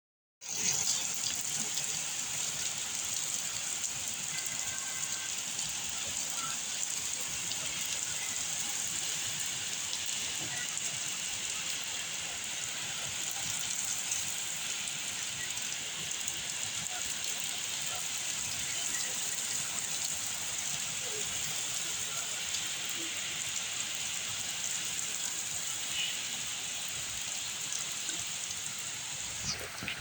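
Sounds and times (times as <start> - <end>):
very heavy rain pouring: 0.4 - 30.0.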